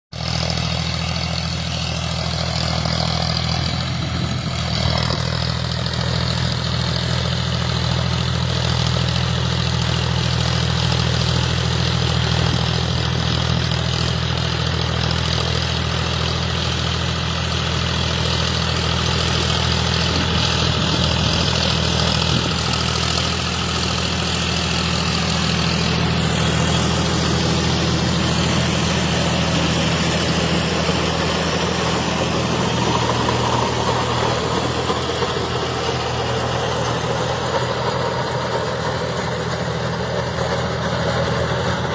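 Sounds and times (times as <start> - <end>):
tractor diesel engine running: 0.1 - 41.9.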